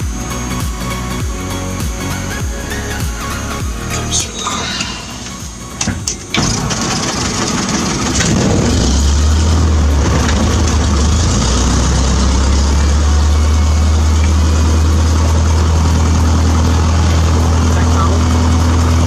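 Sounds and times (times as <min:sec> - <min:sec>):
aircraft engine starting and idling: 0:00.0 - 0:19.0.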